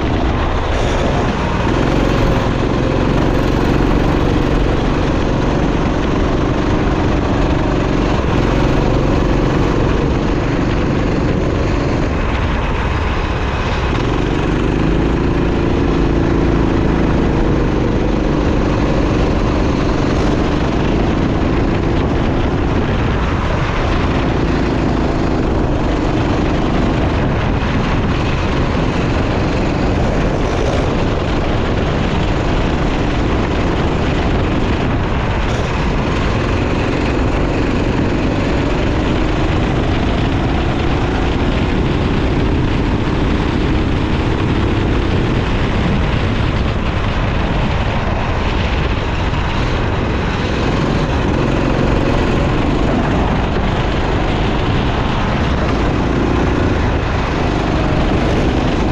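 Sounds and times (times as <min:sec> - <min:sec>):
go-kart engine racing: 0:00.0 - 0:58.9.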